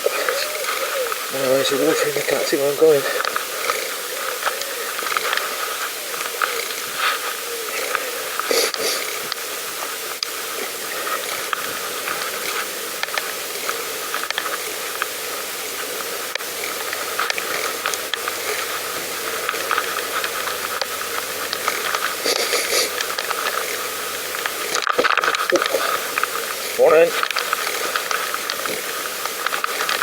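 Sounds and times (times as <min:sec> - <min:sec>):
bike tyres hissing on path: 0:00.0 - 0:30.0.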